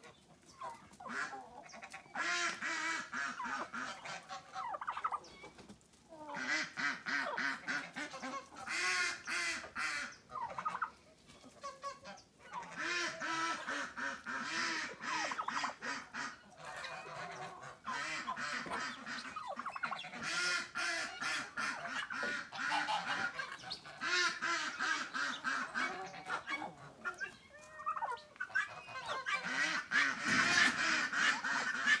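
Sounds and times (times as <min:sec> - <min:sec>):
flock of poultry calling loudly: 0:00.0 - 0:32.0.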